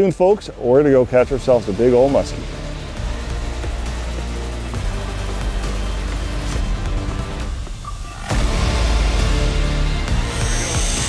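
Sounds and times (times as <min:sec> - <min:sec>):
theme music with heavy bass: 0:00.0 - 0:11.0.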